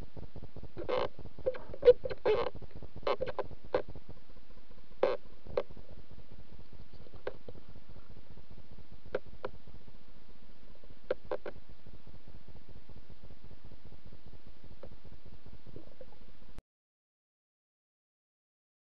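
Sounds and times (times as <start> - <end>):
underwater low rumble: 0.0 - 16.6.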